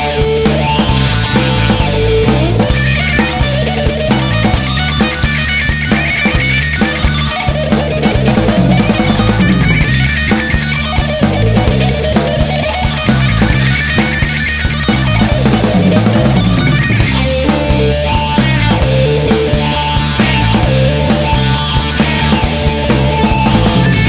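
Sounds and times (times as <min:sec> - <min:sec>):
bass guitar: 0:00.0 - 0:24.0
drum kit: 0:00.0 - 0:24.0
electric guitar: 0:00.0 - 0:24.0.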